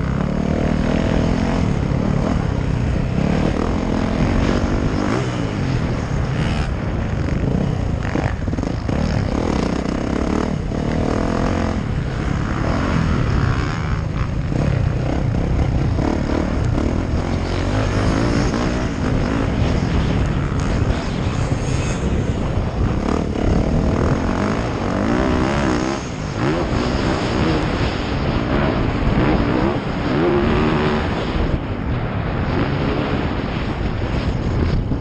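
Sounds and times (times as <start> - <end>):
dirt bike engine revving: 0.0 - 34.8
wind rumbling on microphone: 0.0 - 35.0.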